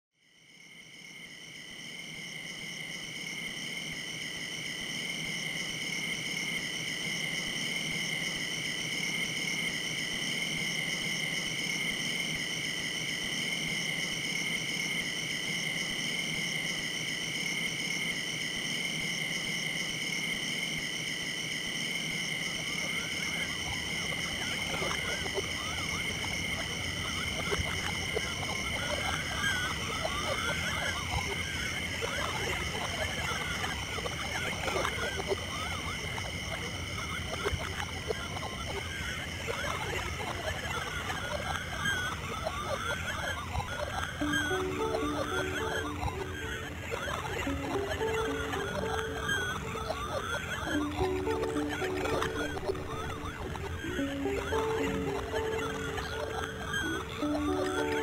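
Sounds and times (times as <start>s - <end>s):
insects calling: 0.2s - 58.0s.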